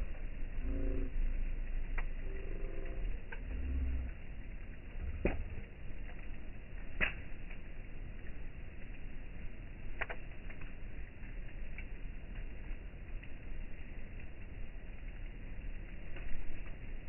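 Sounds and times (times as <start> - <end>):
campfire low rumble: 0.0 - 17.0
campfire pops: 1.7 - 17.0.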